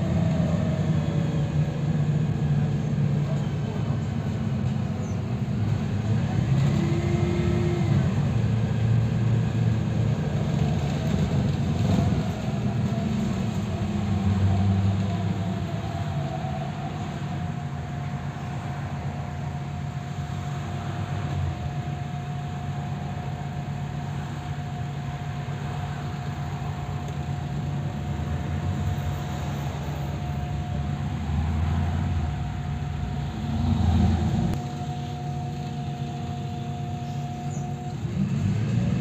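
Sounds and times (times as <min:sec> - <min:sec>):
bus engine whine and hum: 0:00.0 - 0:39.0.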